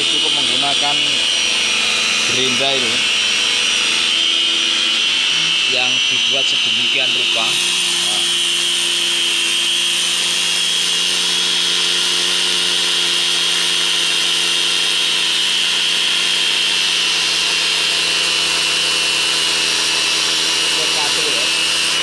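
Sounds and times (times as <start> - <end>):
angle grinder whining: 0.0 - 22.0.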